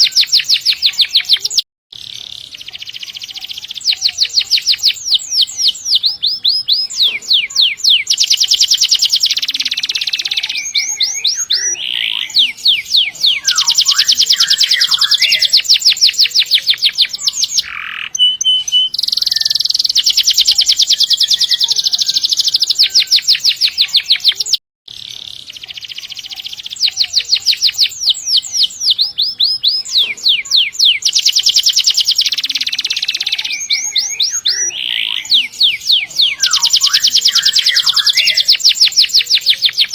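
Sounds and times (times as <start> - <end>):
canary singing rapid rolls: 0.0 - 39.9.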